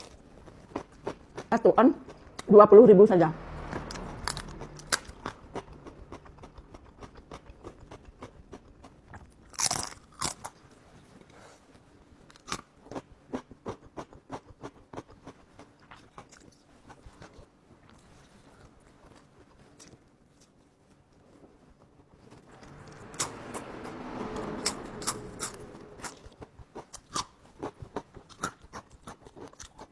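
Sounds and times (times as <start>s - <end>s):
person chewing food: 0.0s - 2.5s, 4.0s - 21.4s, 24.6s - 29.9s.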